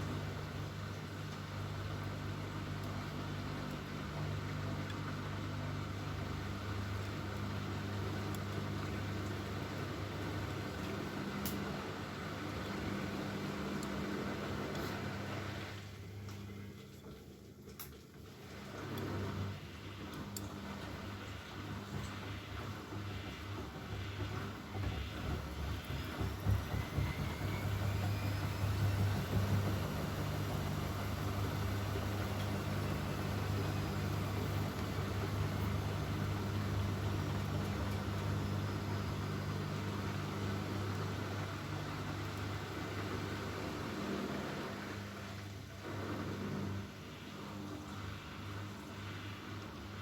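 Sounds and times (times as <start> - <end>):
washing machine motor whine: 0.0 - 17.6, 18.2 - 50.0.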